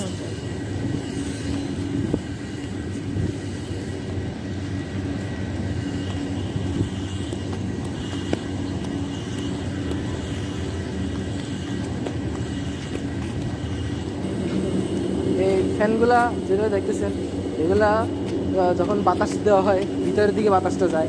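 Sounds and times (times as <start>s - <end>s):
large fans humming: 0.0s - 21.0s.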